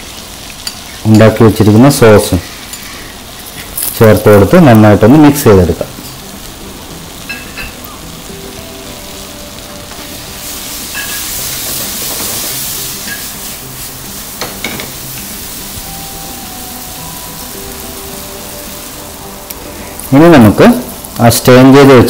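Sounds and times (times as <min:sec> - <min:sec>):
food sizzling in a wok: 0:00.0 - 0:22.0.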